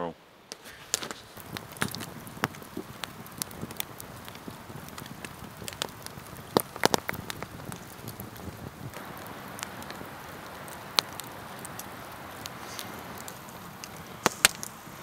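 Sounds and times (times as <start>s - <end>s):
fire hiss: 0.0s - 15.0s
campfire crackling and popping: 0.2s - 15.0s.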